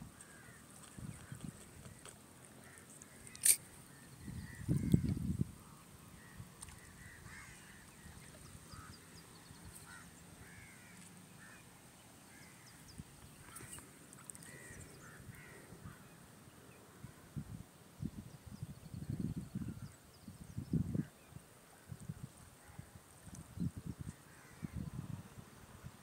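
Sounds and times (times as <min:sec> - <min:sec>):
quiet shore ambience: 0:00.0 - 0:26.0.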